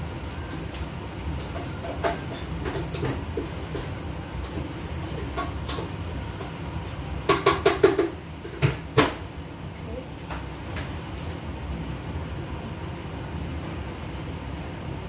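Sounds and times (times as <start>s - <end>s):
extractor fan rumble: 0.0s - 15.0s.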